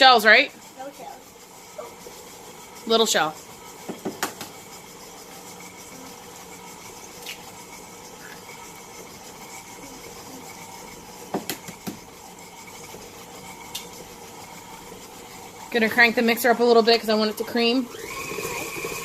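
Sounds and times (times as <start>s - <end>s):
electric mixer running: 0.0s - 19.0s.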